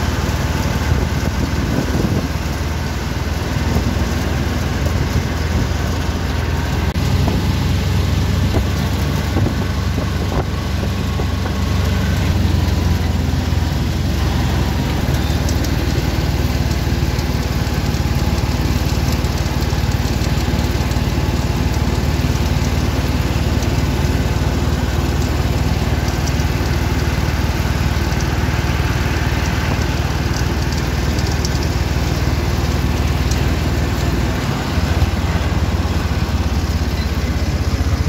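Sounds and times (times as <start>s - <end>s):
auto-rickshaw engine running: 0.0s - 38.0s.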